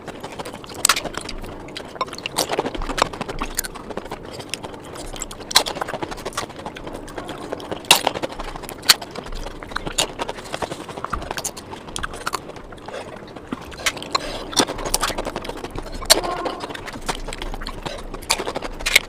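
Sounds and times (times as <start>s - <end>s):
fast chewing with mouth smacks: 0.0s - 19.0s.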